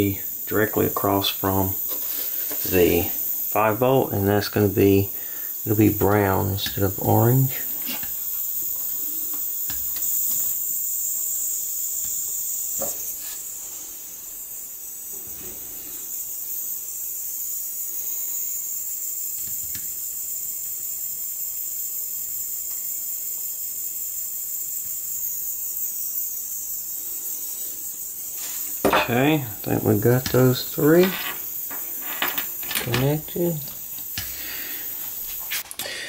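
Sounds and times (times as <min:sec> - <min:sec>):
soldering iron hissing: 0:00.0 - 0:36.0.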